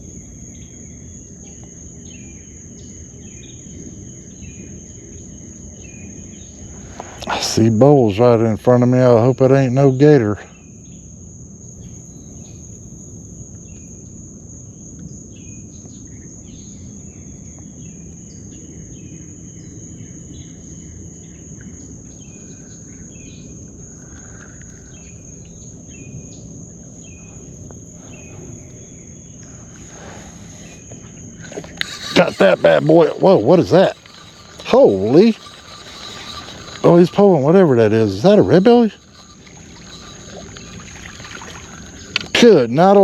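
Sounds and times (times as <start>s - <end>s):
high-pitched insect trill: 0.0s - 43.0s.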